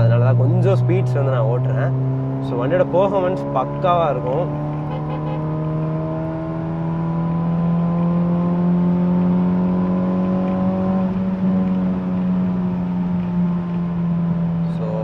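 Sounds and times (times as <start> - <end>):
car engine and exhaust accelerating: 0.0 - 15.0.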